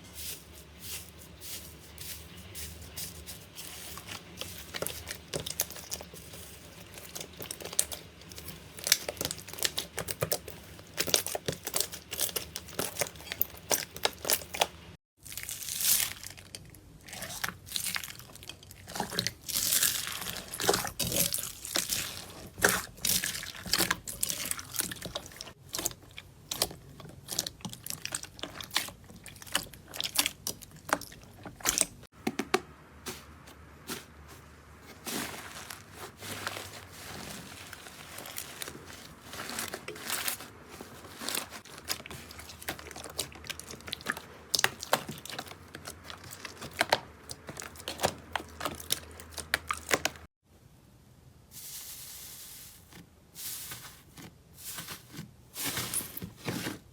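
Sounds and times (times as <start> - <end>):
slime squishing and crackling: 0.6 - 32.1, 34.8 - 50.3.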